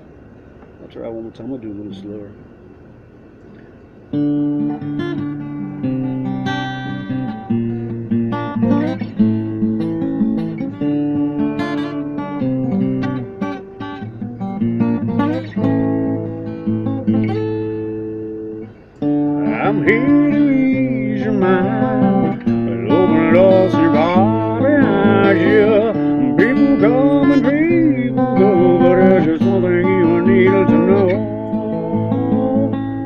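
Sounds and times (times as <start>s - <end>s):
acoustic guitar chords: 4.0s - 33.0s.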